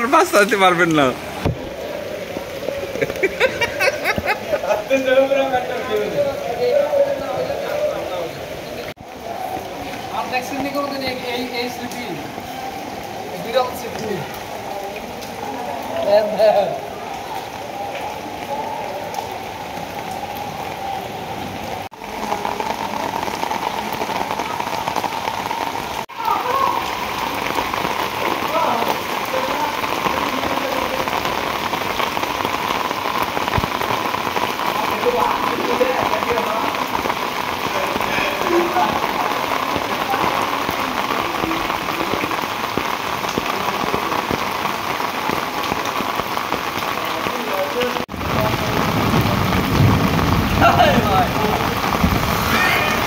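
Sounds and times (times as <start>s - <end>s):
rain falling on water: 0.0s - 53.0s.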